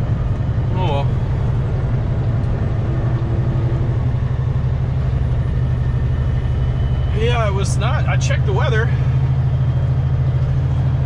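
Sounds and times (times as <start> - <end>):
diesel truck engine droning: 0.0 - 11.0
road noise: 0.0 - 11.0.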